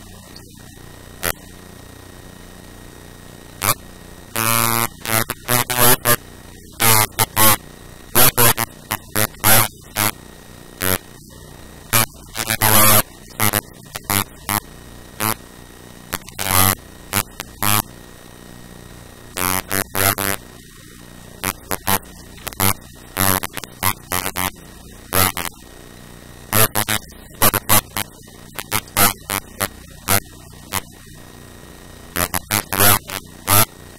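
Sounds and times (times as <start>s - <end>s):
steady electrical hum: 0.0s - 33.9s.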